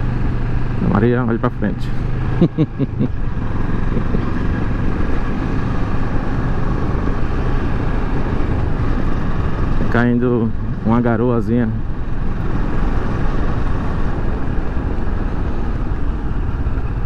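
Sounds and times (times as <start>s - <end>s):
motorcycle engine running: 0.0s - 17.0s
road noise: 0.0s - 17.0s
wind noise: 1.9s - 17.0s.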